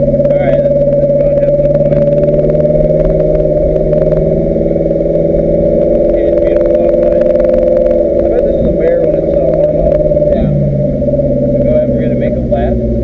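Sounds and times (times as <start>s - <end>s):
race car engine at low revs: 0.0s - 13.0s.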